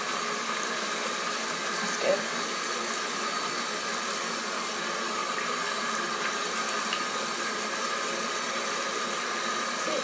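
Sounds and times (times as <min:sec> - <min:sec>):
hands being washed: 0:00.0 - 0:10.0
tap water running into sink: 0:00.0 - 0:10.0.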